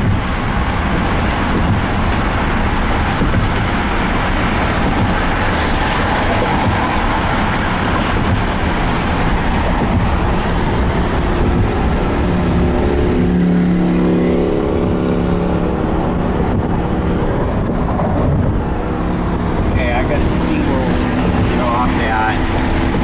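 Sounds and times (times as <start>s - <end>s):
car driving road noise: 0.0s - 23.0s.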